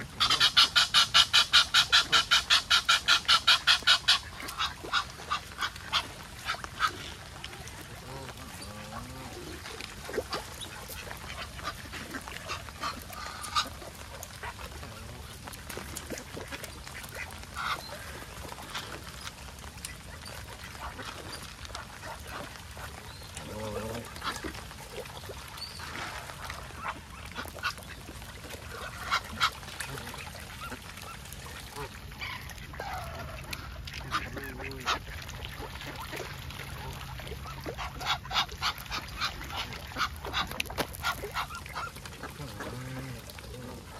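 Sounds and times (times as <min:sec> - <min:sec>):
geese and ducks calling: 0:00.0 - 0:43.9.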